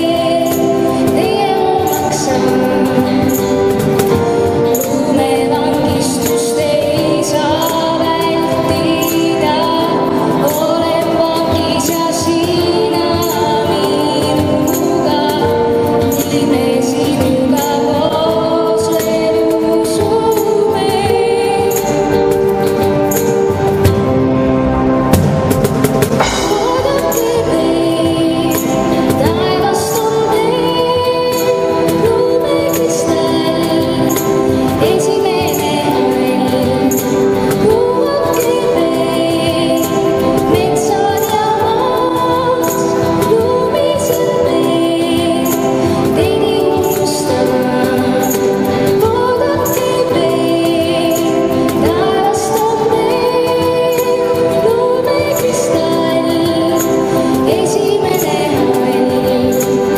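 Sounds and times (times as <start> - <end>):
woman singing: 0.0 - 24.0, 26.2 - 59.9
electric guitar: 0.0 - 59.9
hand percussion beat: 0.0 - 59.9.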